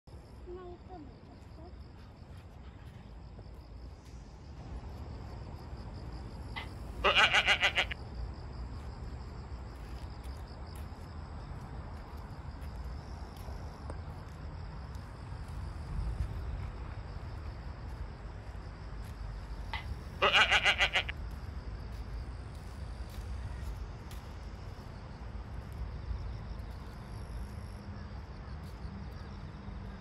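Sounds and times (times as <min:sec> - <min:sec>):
insects trilling: 0:00.1 - 0:30.0.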